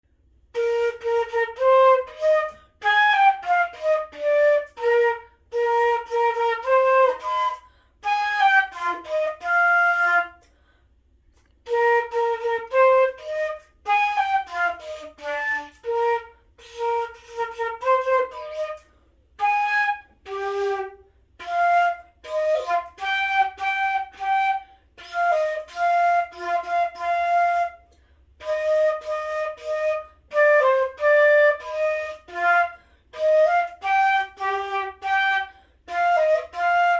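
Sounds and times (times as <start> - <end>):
solo flute playing: 0.3 - 10.7, 11.6 - 36.9.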